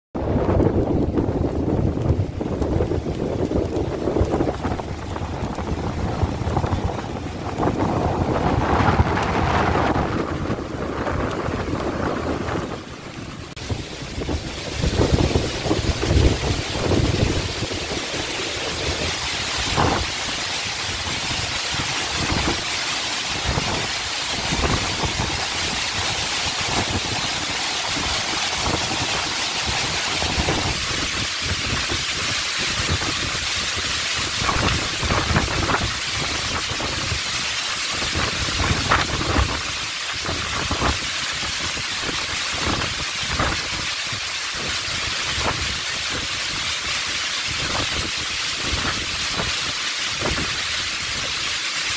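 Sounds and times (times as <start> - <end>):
gusty wind rumbling: 0.2 - 51.3
heavy rain pouring: 0.2 - 51.9.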